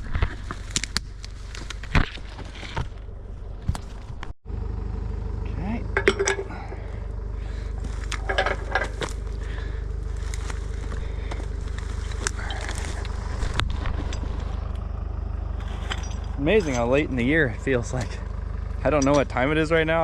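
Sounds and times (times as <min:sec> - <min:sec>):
knocks and cracks of brush and logs: 0:00.0 - 0:04.3, 0:06.4 - 0:20.0
excavator diesel engine running: 0:00.0 - 0:20.0.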